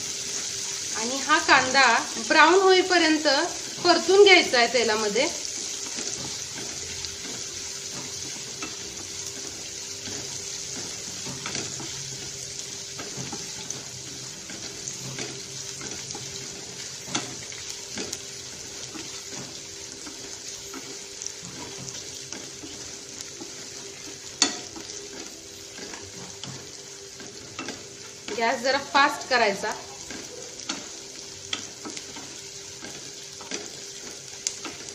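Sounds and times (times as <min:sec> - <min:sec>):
onions sizzling in oil: 0:00.0 - 0:34.9
spatula scraping and tapping pan: 0:05.5 - 0:28.9, 0:29.9 - 0:34.9.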